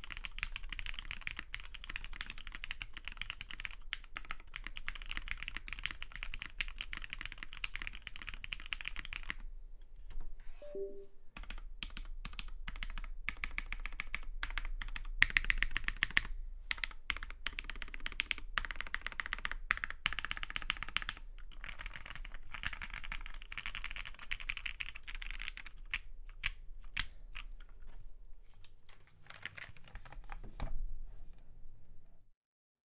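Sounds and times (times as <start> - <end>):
mechanical keyboard typing: 0.0 - 9.4, 11.4 - 27.7, 29.2 - 30.3.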